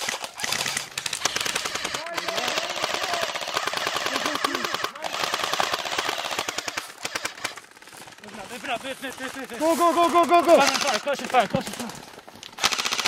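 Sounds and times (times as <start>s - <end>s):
airsoft guns firing full auto: 0.0s - 13.0s.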